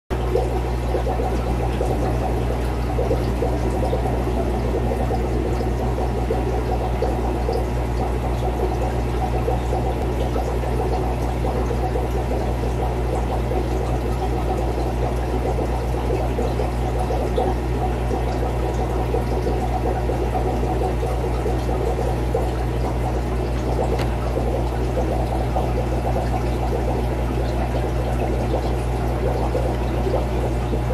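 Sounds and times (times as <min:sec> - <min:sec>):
low constant hum: 0:00.1 - 0:30.9
water pouring and trickling: 0:00.1 - 0:30.9.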